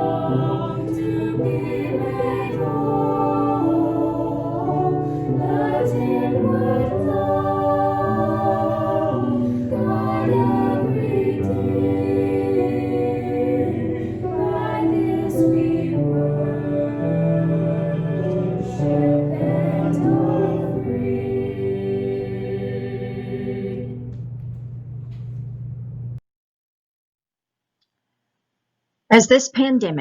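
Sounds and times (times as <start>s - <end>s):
choir singing a hymn: 0.0s - 24.1s.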